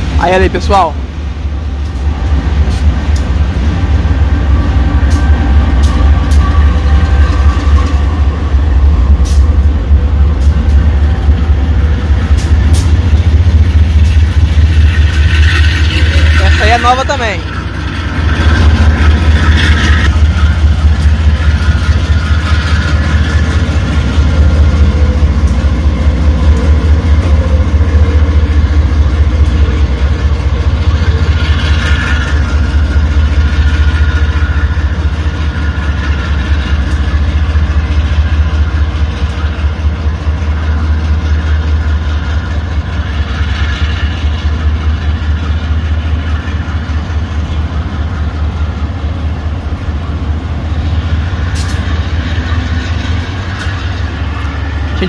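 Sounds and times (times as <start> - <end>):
diesel locomotive engines rumbling: 0.0 - 55.0.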